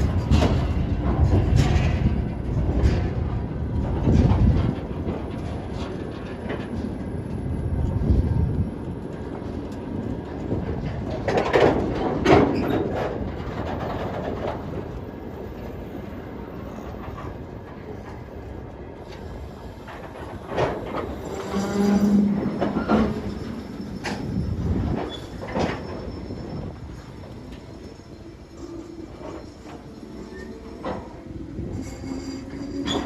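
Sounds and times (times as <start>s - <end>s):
train wheels clattering: 0.0s - 33.0s.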